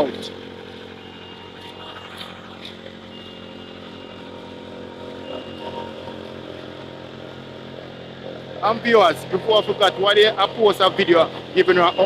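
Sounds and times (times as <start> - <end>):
paving machine engine running: 0.0 - 12.0.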